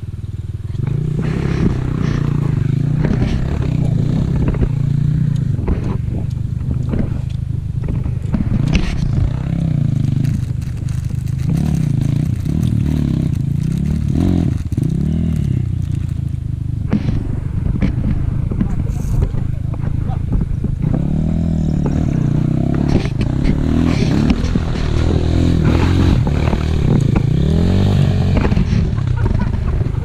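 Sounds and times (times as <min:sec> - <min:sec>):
dirt bike engine revving: 0:00.0 - 0:30.0
bike clattering through mud: 0:00.7 - 0:30.0.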